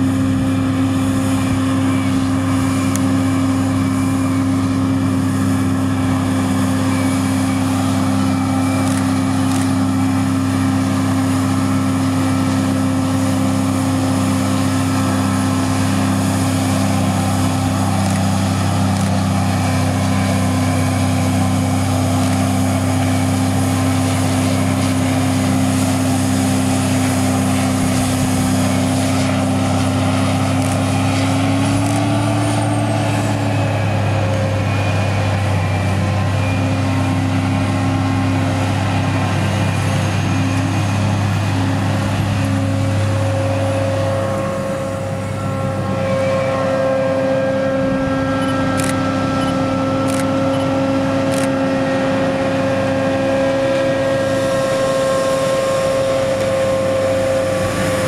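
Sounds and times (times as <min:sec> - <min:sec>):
forage harvester engine droning: 0:00.0 - 0:58.0
tractor and trailer running: 0:00.0 - 0:58.0.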